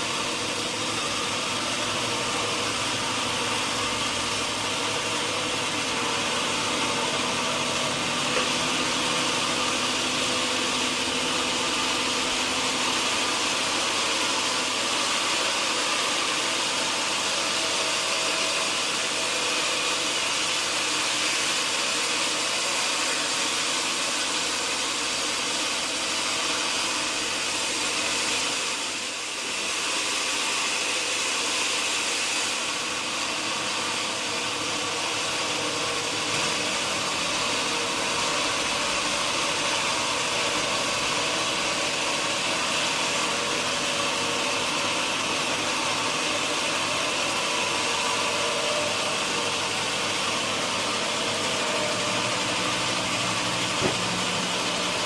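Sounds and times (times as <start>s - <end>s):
sawmill machinery whirring: 0.0s - 55.0s.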